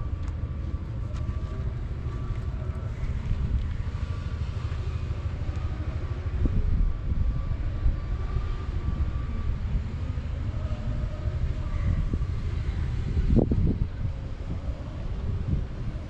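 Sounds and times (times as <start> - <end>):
diesel engine rumbling: 0.0 - 16.0
faint high whine: 0.0 - 16.0.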